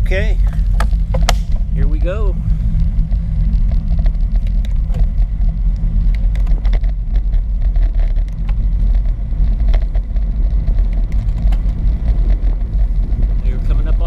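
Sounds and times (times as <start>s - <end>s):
light ticks and rattles: 0.0s - 14.0s
wind and road rumble: 0.0s - 14.0s.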